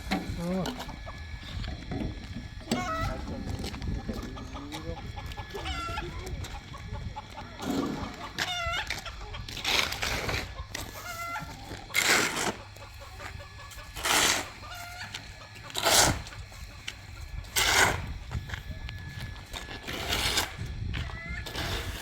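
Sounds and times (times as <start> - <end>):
chickens clucking: 0.0 - 22.0
noisy rasp: 0.0 - 22.0.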